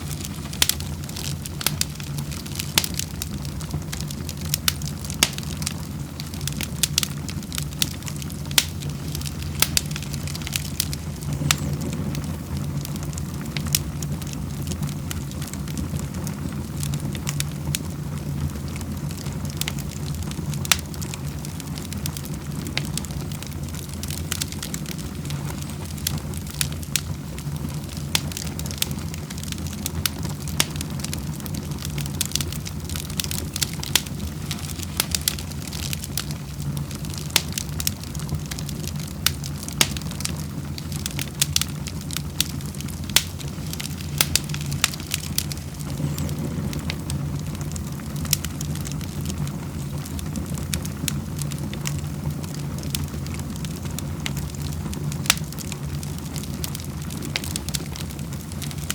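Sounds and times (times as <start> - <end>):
low rumble of fire: 0.0 - 58.9
wood fire crackling and popping: 0.0 - 58.9.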